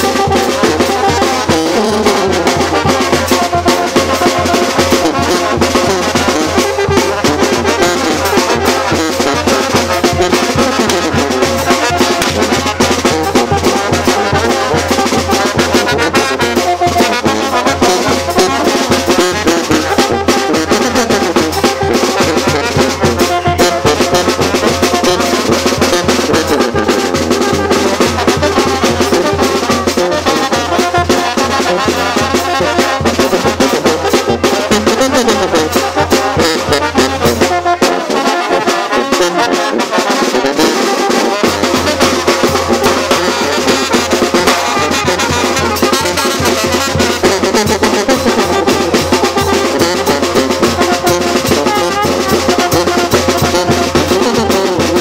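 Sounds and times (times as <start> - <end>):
brass band dance music: 0.0 - 55.0.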